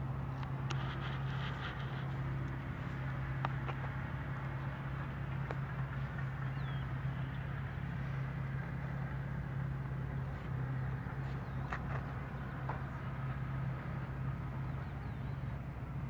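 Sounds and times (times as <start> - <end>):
bulldozer diesel engines droning: 0.0 - 16.0.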